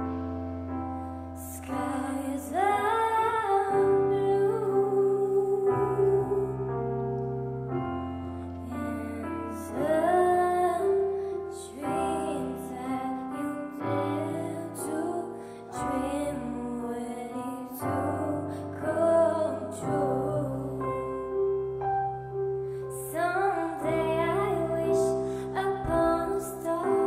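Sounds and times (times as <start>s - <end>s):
piano accompaniment: 0.0s - 27.0s
woman singing into a microphone: 1.4s - 7.0s, 8.6s - 21.7s, 22.9s - 27.0s.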